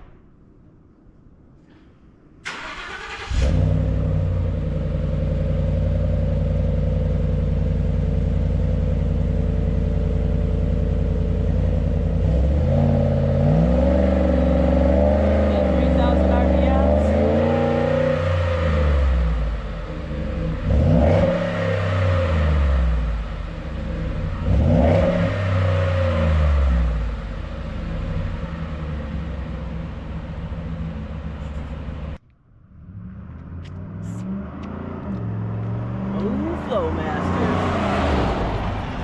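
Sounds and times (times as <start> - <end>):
truck engine revving: 2.5 - 39.0.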